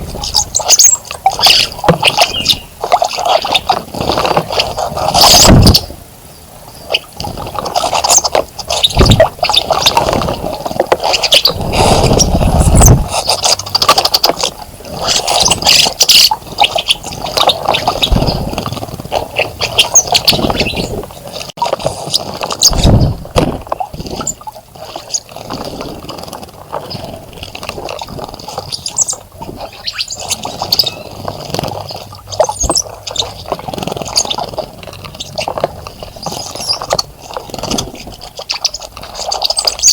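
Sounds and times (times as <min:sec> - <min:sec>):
birds splashing in water: 0:00.0 - 0:39.9.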